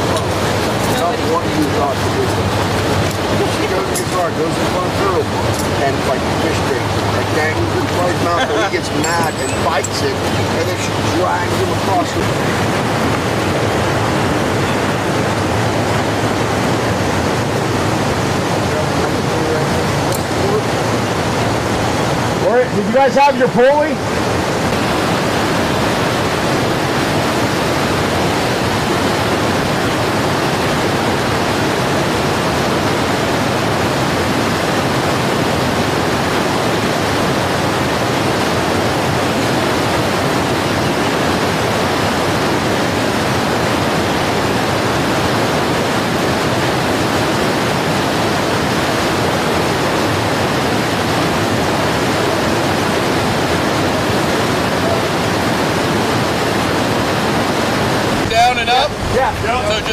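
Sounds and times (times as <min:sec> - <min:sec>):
river water rushing over weir: 0:00.0 - 0:59.9.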